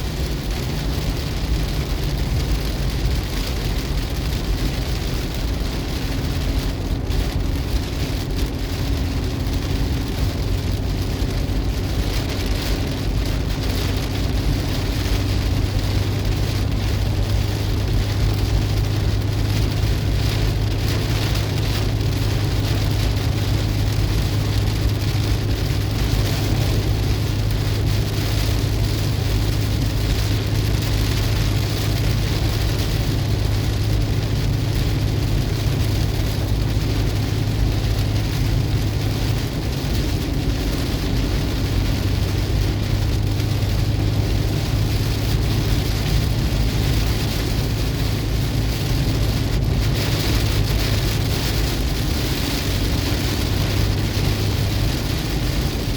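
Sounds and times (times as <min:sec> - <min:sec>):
heavy rain on car roof: 0:00.0 - 0:55.9.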